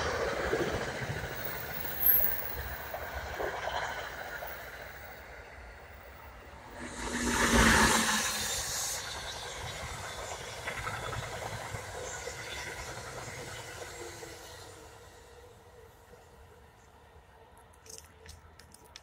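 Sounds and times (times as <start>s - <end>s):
electric locomotive passing at speed: 0.0s - 17.5s
train wheels on rails: 0.0s - 19.0s.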